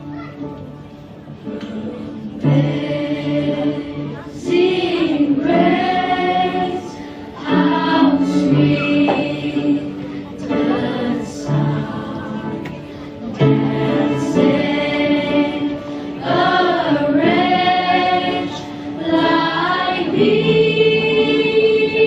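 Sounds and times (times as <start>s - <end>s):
choir singing a hymn: 1.3s - 22.0s.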